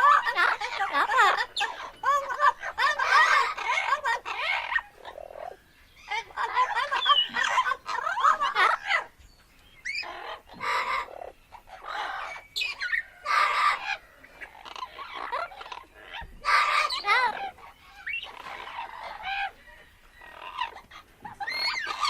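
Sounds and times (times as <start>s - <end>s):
parrot squawking: 0.0s - 9.1s, 9.8s - 19.6s, 20.2s - 22.0s.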